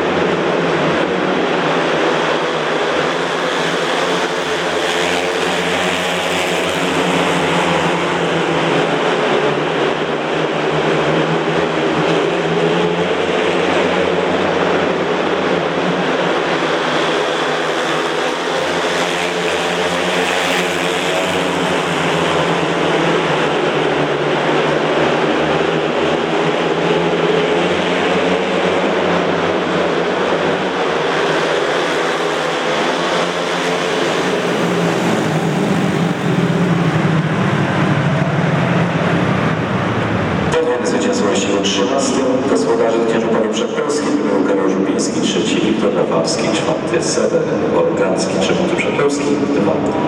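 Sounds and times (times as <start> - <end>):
motorcycles racing: 0.0 - 50.0.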